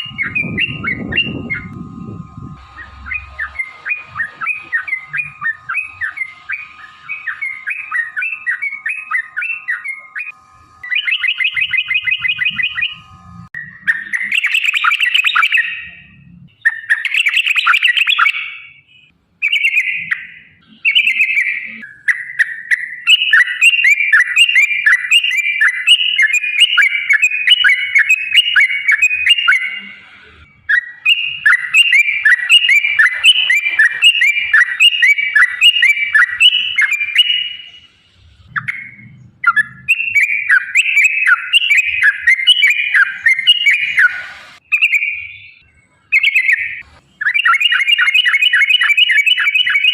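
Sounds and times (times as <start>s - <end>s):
bulbul singing fast chattering: 0.0s - 18.8s, 19.4s - 49.9s.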